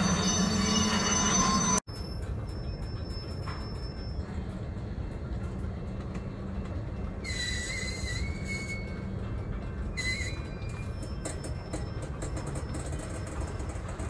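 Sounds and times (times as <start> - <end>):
high metallic wheel squeal: 0.0 - 4.5, 7.2 - 14.0
freight train rolling past: 0.0 - 14.0.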